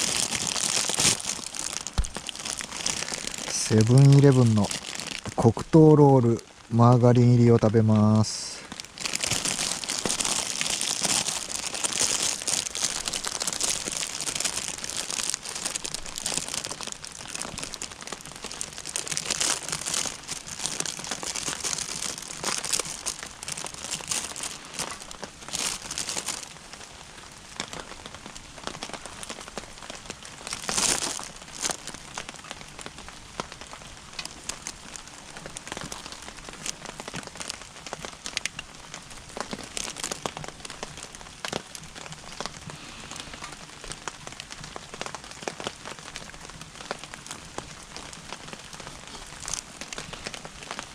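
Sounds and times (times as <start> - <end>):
plastic wrapper crinkling: 0.0 - 50.9
wood fire crackling in a stove: 0.0 - 50.9.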